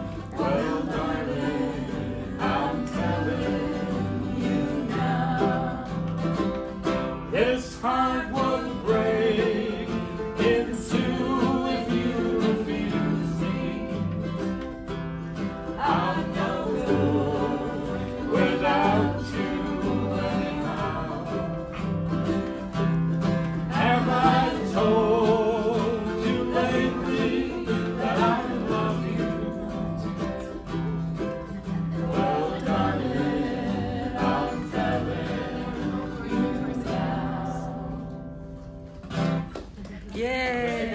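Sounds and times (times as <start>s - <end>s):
voices singing in harmony: 0.0s - 22.9s, 23.6s - 38.5s
acoustic guitar strummed: 0.0s - 39.8s
mandolin: 0.0s - 40.9s.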